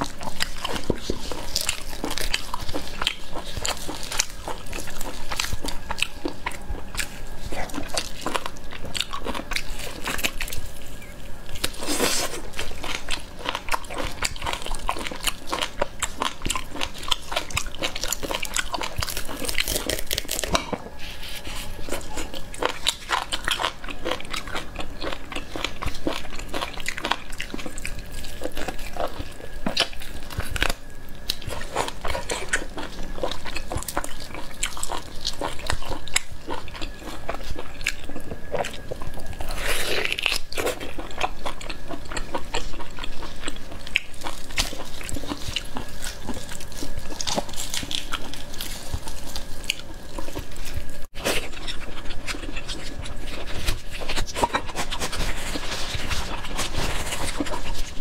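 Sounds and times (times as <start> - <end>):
person chewing meat: 0.0 - 58.0.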